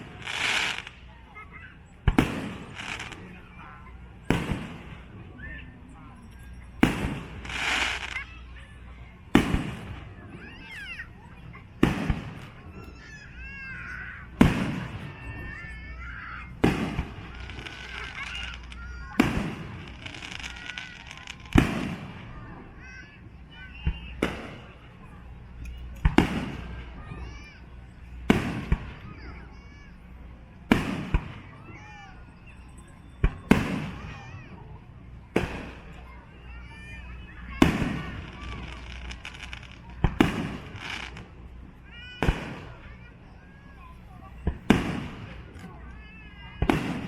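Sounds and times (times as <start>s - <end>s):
fireworks bangs: 0.0s - 5.6s, 6.2s - 8.4s, 9.2s - 29.9s, 30.6s - 32.6s, 33.2s - 47.0s
crowd voices: 0.0s - 47.0s
rumble after fireworks: 0.0s - 47.0s.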